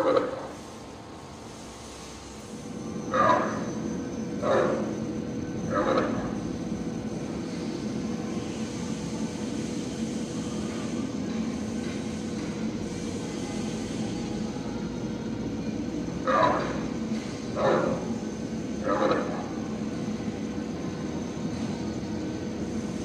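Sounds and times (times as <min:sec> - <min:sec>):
mechanical hum and whine: 0:00.0 - 0:23.0.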